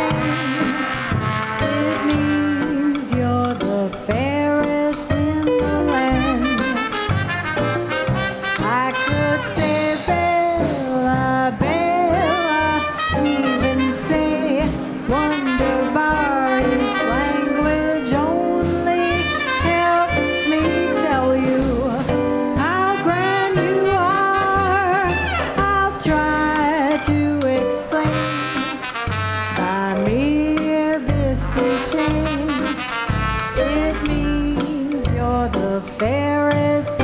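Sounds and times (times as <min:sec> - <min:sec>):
swing band playing: 0:00.0 - 0:37.0.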